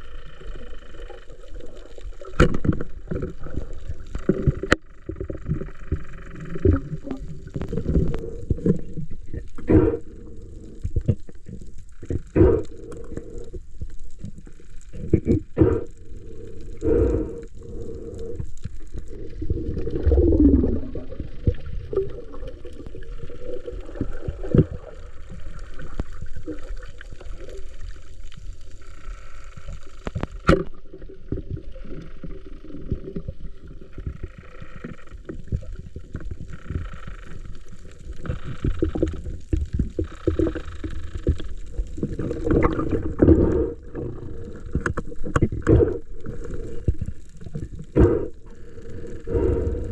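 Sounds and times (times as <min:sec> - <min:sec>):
water sloshing and gurgling: 0:00.0 - 0:49.9.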